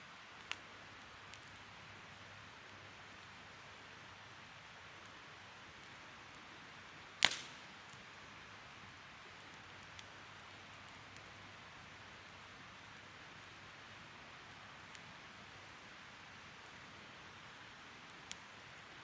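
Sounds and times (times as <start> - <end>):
wood fire hissing and popping: 0.0 - 19.0.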